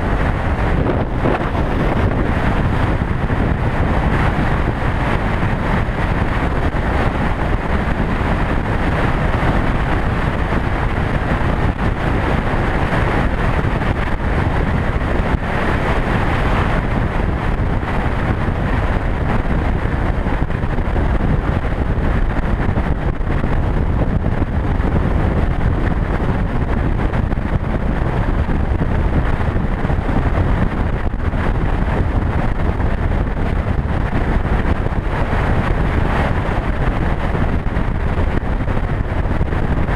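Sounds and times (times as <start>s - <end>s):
motorcycle engine and tyres: 0.0s - 39.9s
wind rush on microphone: 0.0s - 39.9s.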